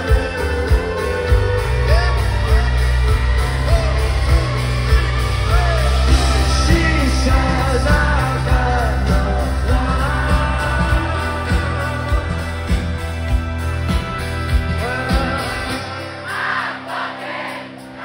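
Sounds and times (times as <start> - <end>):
man singing: 0.0 - 13.0, 14.6 - 16.2
heavy bass: 0.0 - 16.5
steady drum beat: 0.0 - 16.5
electric guitar: 0.0 - 17.1.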